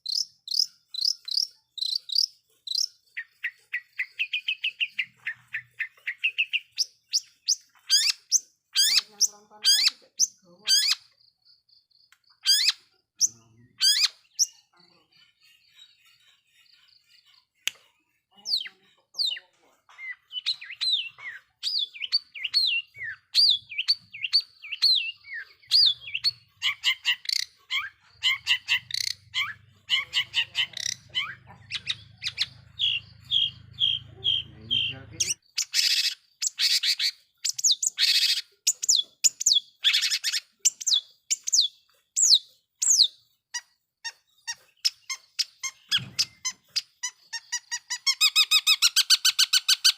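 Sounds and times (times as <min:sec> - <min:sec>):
harsh rasping bird calls: 0:00.0 - 0:15.0, 0:15.6 - 0:49.9
bird singing: 0:00.0 - 0:49.9.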